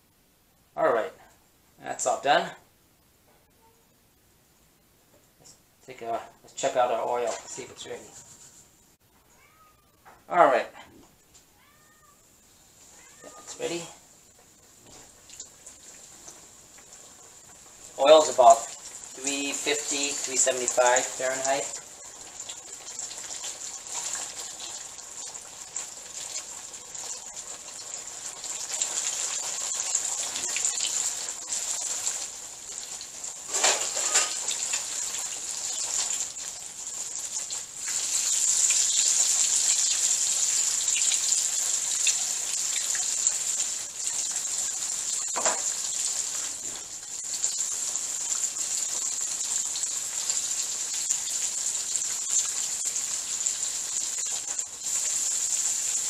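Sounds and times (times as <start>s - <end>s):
chicken wings deep-frying in oil: 6.6s - 8.6s, 11.7s - 56.0s.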